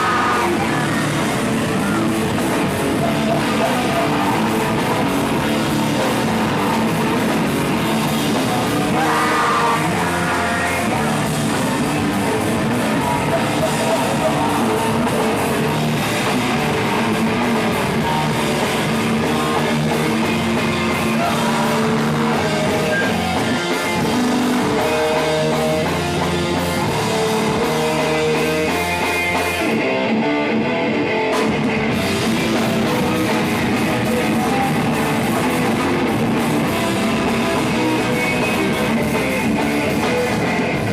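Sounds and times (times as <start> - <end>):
person singing: 0.0 - 30.1, 31.9 - 40.9
drum kit: 0.0 - 40.9
electric guitars: 0.0 - 40.9
rock band playing live: 0.0 - 40.9.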